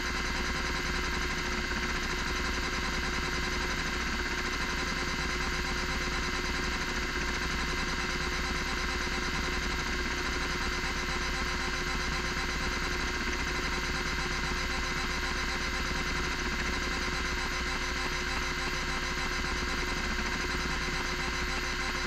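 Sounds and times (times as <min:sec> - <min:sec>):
hard drive spindle whine: 0:00.0 - 0:22.0.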